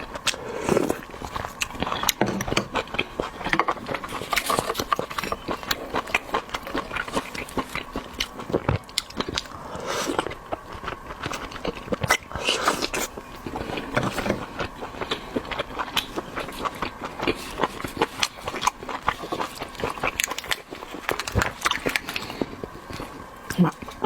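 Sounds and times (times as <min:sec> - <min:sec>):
chewing and biting seafood: 0:00.0 - 0:24.0.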